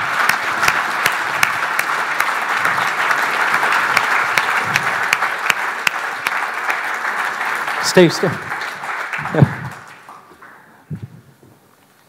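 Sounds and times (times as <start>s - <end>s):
nearby hands clapping sharply: 0.0s - 10.6s
audience applauding: 0.0s - 11.0s.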